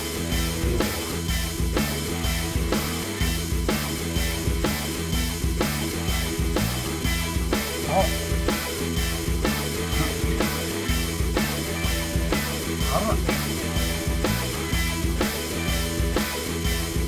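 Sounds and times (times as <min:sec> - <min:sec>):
rock music with drums and bass: 0:00.0 - 0:17.0.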